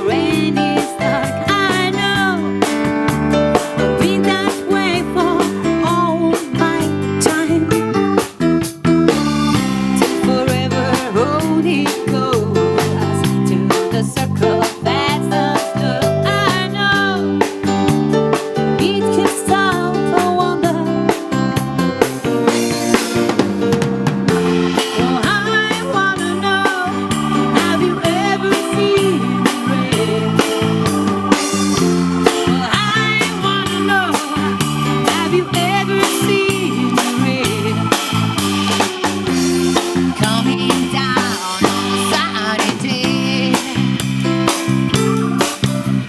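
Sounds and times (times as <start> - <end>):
band playing steady beat: 0.0 - 46.0
organ-like keyboard line: 0.0 - 46.0.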